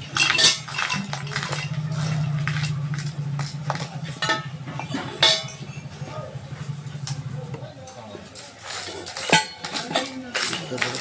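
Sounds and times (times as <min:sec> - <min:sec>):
metal jar clinking and knocking: 0:00.0 - 0:06.2, 0:08.3 - 0:11.0.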